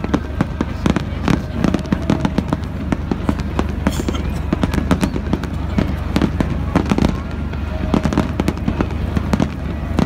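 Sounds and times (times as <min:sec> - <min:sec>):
fireworks popping and crackling: 0:00.0 - 0:10.0
steady low rumble: 0:00.0 - 0:10.0.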